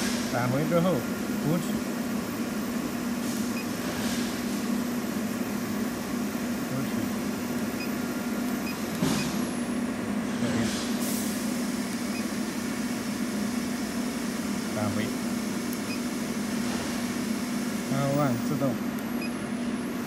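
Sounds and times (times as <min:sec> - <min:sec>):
steady low machine hum: 0:00.0 - 0:20.0.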